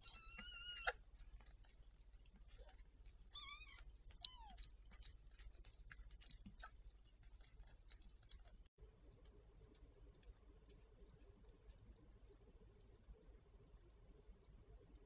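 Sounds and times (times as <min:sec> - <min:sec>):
cat licking and chewing: 0:00.0 - 0:15.0.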